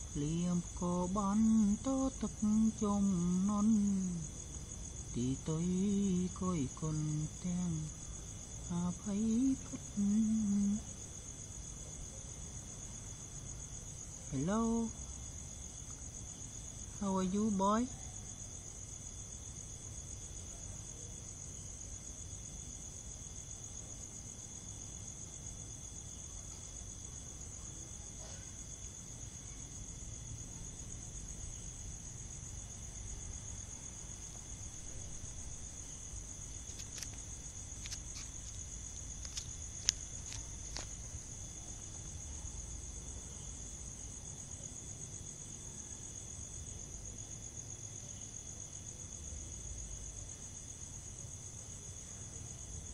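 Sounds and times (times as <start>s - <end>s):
crickets chirring: 0.0s - 52.9s.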